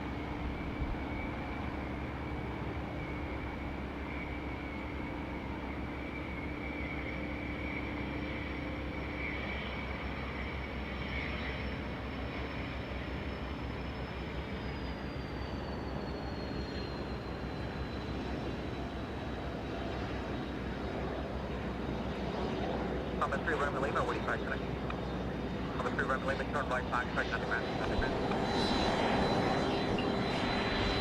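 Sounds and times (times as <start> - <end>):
aircraft engine passing: 0.0 - 31.0.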